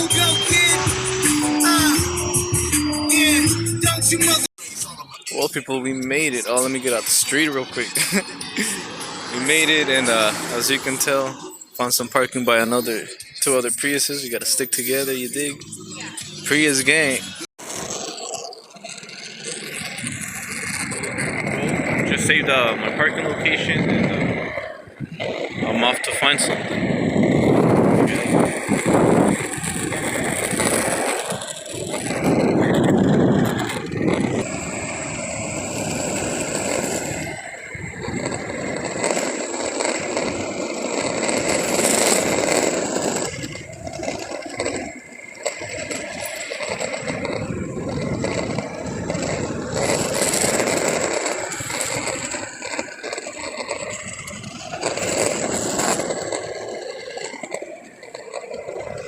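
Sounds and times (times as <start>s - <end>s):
skateboard wheels rolling on pavement: 0.0s - 59.0s.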